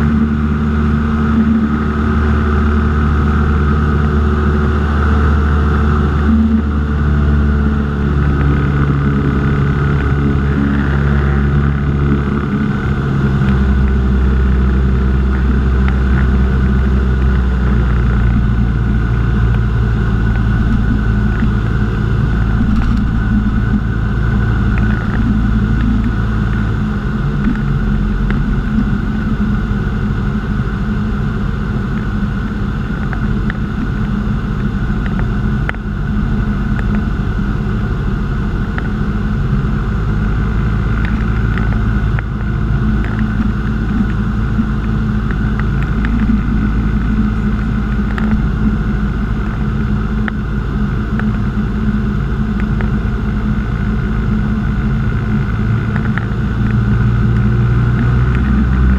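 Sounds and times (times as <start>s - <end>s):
light aircraft engine drone: 0.0s - 58.9s.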